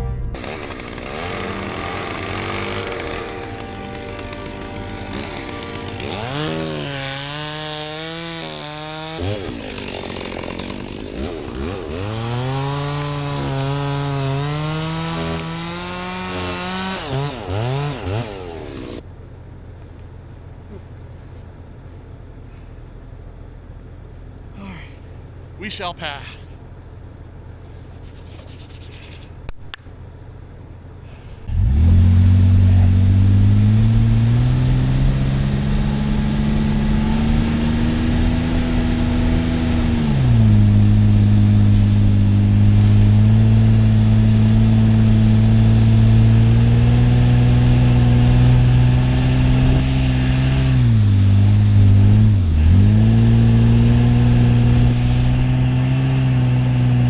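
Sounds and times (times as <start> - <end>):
truck engine revving under load: 0.0 - 19.1, 26.6 - 57.0.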